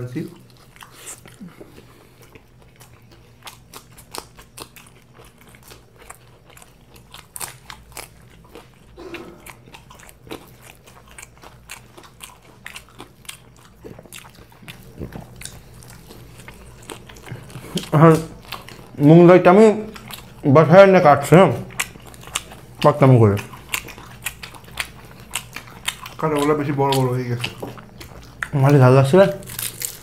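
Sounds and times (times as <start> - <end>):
close chewing and crunching: 0.0 - 30.0.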